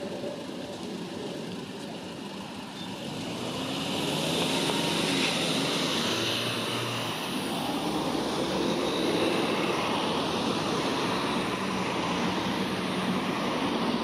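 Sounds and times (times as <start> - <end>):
road traffic hiss: 0.0 - 14.0
vehicle passing: 0.0 - 14.0.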